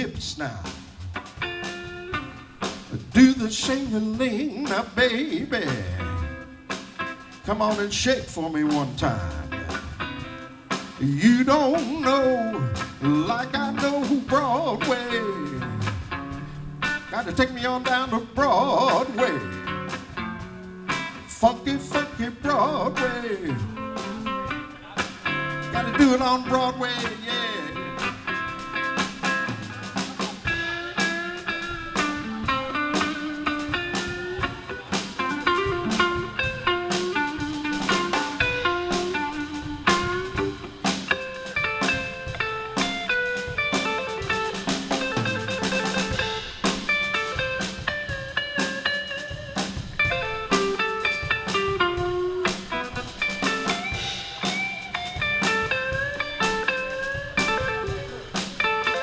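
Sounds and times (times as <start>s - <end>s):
drum kit beat: 0.0s - 59.0s
guitar lead line: 0.0s - 59.0s
live blues band: 0.0s - 59.0s.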